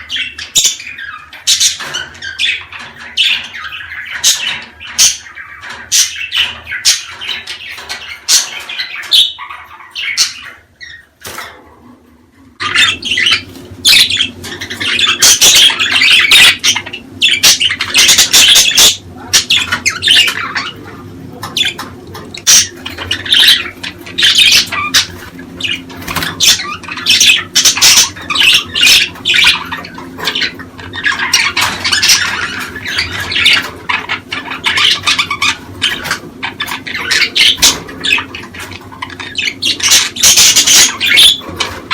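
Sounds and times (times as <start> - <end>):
budgerigars chattering and squawking: 0.0 - 41.9.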